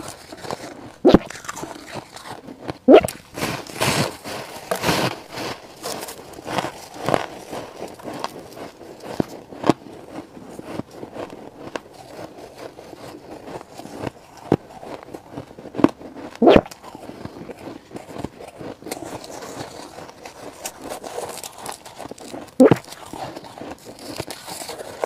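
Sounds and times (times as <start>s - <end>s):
ice crunching while chewing: 0.0s - 25.0s.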